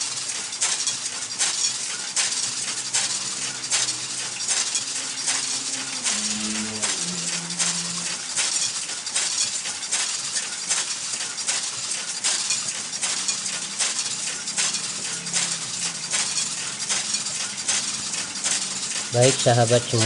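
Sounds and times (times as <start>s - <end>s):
dense irregular clicking: 0.0s - 20.0s
plastic film crackling and rustling: 0.0s - 20.0s.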